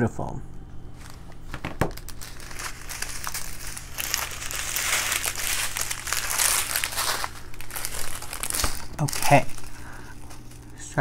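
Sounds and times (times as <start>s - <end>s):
plastic bags crinkling: 0.9s - 11.0s.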